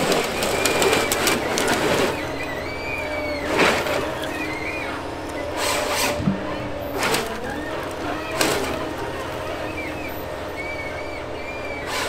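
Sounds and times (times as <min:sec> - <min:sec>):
wood cracking and branches breaking: 0:00.0 - 0:10.8
diesel engine running: 0:00.0 - 0:12.0
hydraulic whine: 0:00.0 - 0:12.0.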